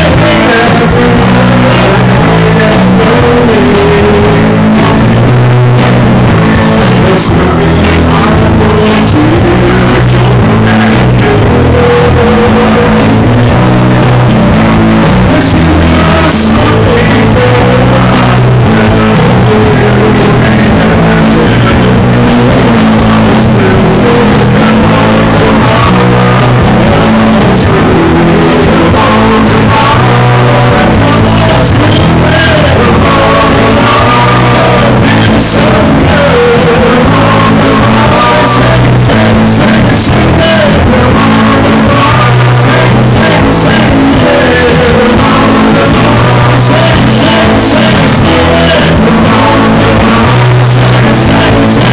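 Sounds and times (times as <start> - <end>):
bass guitar: 0.0 - 51.9
drum kit: 0.0 - 51.9
electric guitars: 0.0 - 51.9
man singing into a microphone: 0.0 - 51.9.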